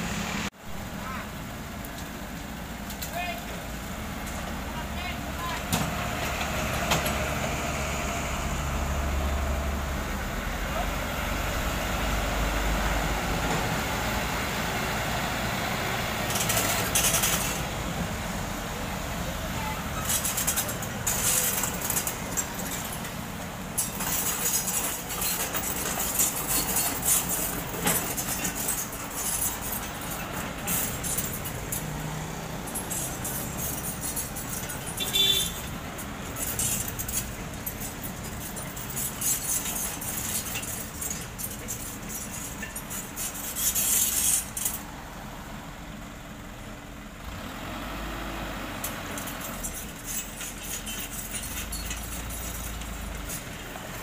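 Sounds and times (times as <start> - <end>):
truck diesel engine: 0.0 - 54.0.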